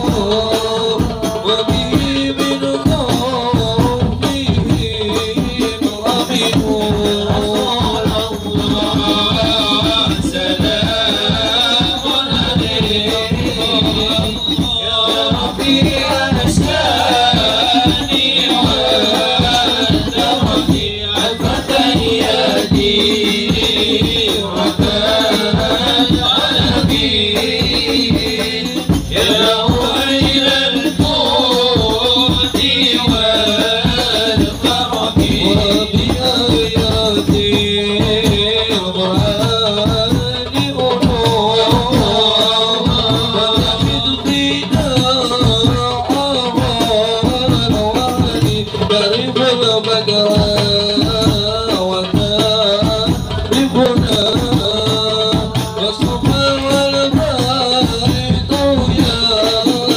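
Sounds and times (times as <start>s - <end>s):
hand drums with jingles: 0.0s - 59.9s
men chanting: 0.0s - 59.9s.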